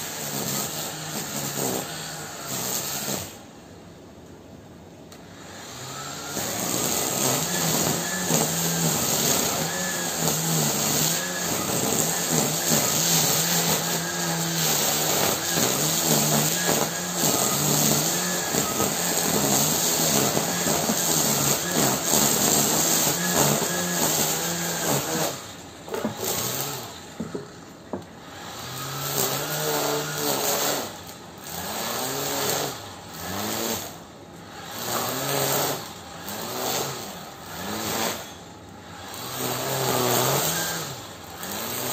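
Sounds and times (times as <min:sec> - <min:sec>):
grass trimmer cutting grass: 0:00.0 - 0:03.5, 0:05.3 - 0:41.9.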